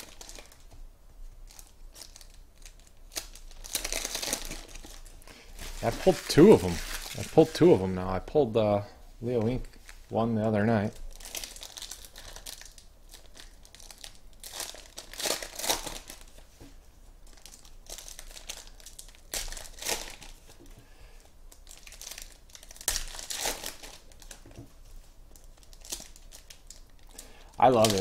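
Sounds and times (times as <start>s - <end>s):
foil wrappers crinkling and tearing: 0.0s - 0.8s, 1.4s - 8.1s, 10.8s - 16.5s, 17.2s - 28.0s.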